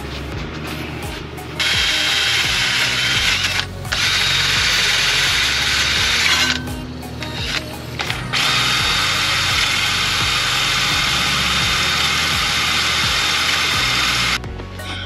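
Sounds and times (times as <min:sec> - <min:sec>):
drill grinding rust: 0:01.5 - 0:15.0.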